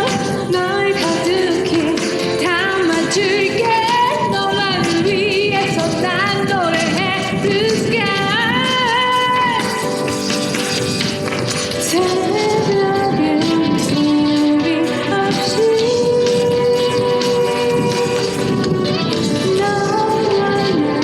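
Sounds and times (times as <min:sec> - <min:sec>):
woman singing pop song: 0:00.0 - 0:10.8, 0:11.4 - 0:21.0
band accompaniment: 0:00.0 - 0:21.0.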